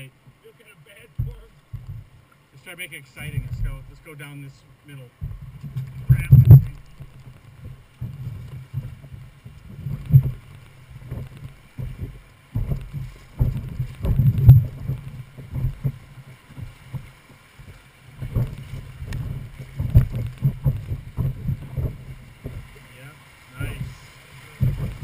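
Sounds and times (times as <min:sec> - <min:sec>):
water rushing against boat hull: 0:00.0 - 0:25.0.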